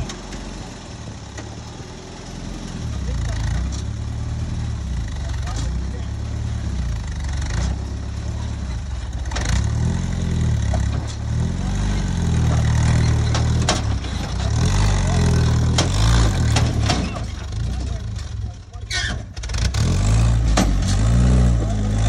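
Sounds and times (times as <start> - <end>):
jeep engine revving: 2.0 - 18.4, 19.0 - 22.0.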